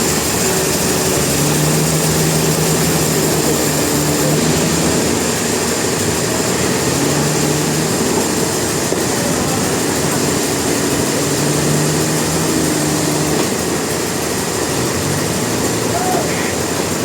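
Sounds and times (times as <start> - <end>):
sawmill machinery droning: 0.0 - 17.0.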